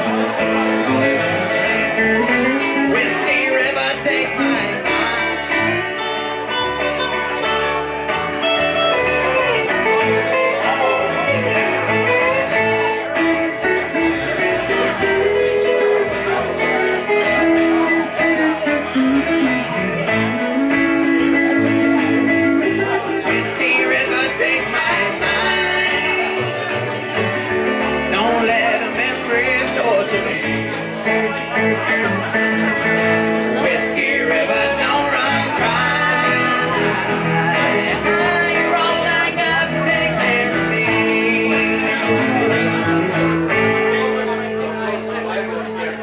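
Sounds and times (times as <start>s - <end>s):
acoustic guitar: 0.0s - 46.0s
electric guitar: 0.0s - 46.0s
upright bass: 0.0s - 46.0s.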